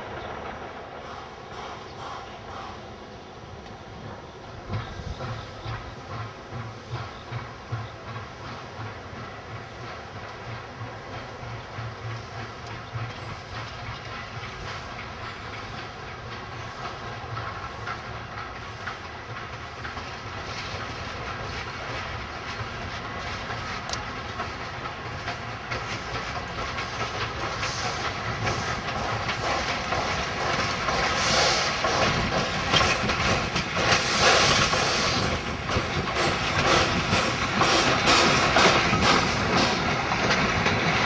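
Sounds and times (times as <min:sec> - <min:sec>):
train wheels clicking over rails: 0:00.0 - 0:41.0
steam hissing: 0:00.8 - 0:41.0.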